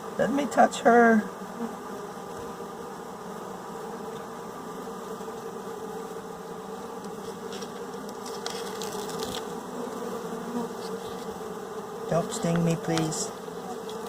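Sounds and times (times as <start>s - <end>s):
honey bees buzzing: 0.0s - 14.0s.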